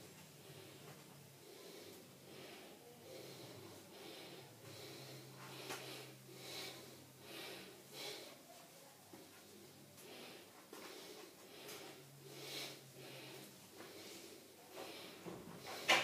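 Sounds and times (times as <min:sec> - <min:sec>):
faint low hum: 0:00.0 - 0:16.0
person breathing in airy puffs: 0:00.4 - 0:08.4, 0:10.0 - 0:16.0.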